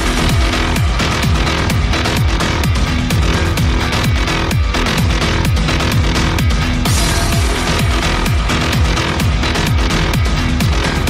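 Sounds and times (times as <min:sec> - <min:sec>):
deep kick drum: 0:00.0 - 0:11.0.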